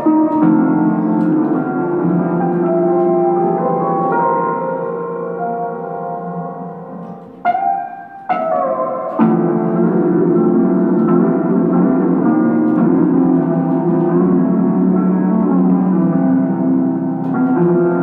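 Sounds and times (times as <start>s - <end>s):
electronic keyboard chords: 0.0s - 18.0s.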